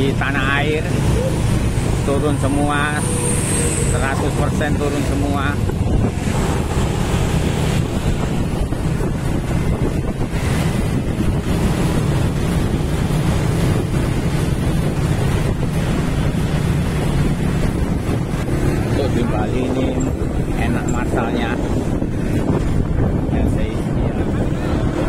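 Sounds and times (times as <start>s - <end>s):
motorcycle engine hum: 0.0s - 25.0s
wind buffeting microphone: 0.0s - 25.0s.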